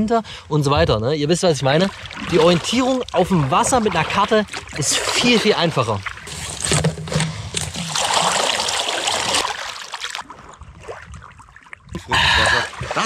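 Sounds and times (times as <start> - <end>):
water splashing against kayak: 0.7 - 13.0.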